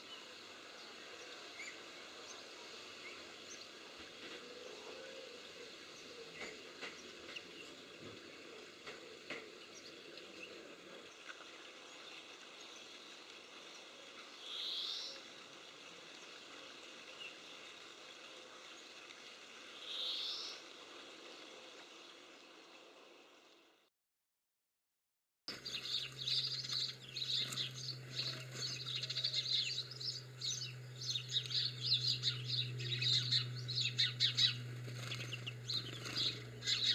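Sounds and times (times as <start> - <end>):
outdoor background hiss: 0.0 - 23.9, 25.5 - 36.9.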